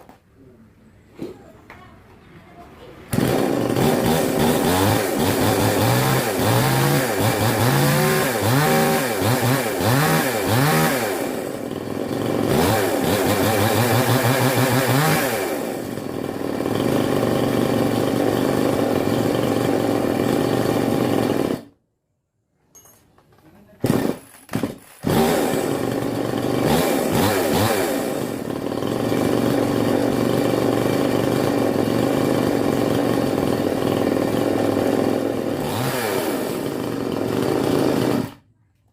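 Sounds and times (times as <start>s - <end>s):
chainsaw engine revving: 3.1s - 21.8s, 23.8s - 38.4s.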